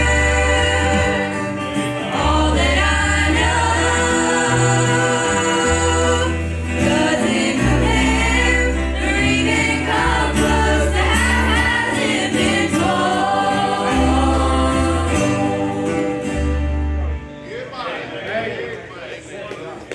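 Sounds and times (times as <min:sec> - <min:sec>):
group singing gospel: 0:00.0 - 0:17.3
steady bass line: 0:00.0 - 0:17.4.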